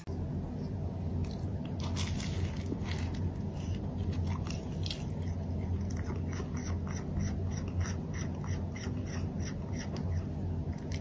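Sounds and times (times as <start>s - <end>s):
steady low hum: 0.0s - 11.0s
cat chewing crunchy food: 0.2s - 11.0s.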